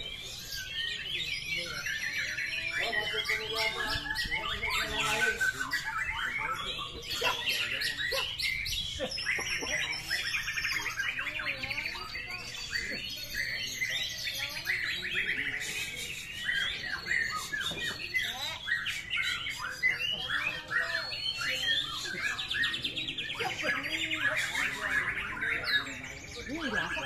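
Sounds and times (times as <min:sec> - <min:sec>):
birds singing trills and whistles: 0:00.0 - 0:27.0.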